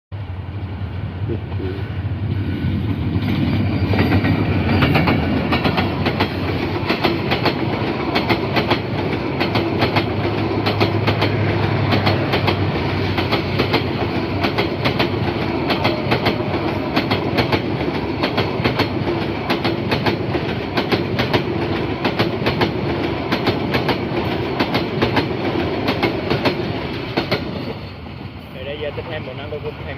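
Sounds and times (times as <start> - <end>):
train rumble: 0.2 - 29.9
train wheels clattering over rail joints: 2.8 - 27.9.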